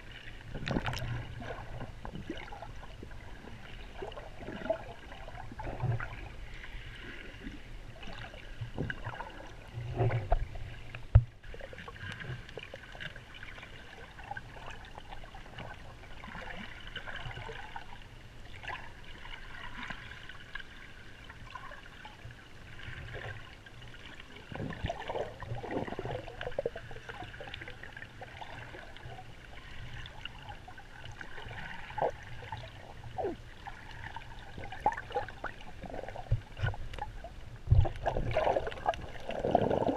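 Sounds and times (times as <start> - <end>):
crackles and bubbling: 0.0 - 39.9
muffled underwater water rush: 0.0 - 39.9.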